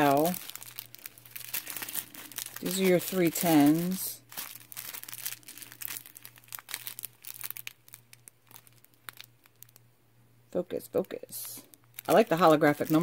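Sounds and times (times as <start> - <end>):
plastic bags crinkling: 0.0 - 9.8, 10.8 - 13.0.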